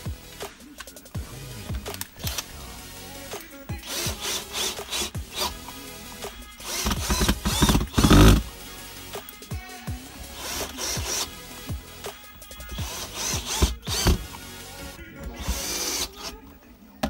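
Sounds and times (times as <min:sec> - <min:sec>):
electronic background music: 0:00.0 - 0:17.0.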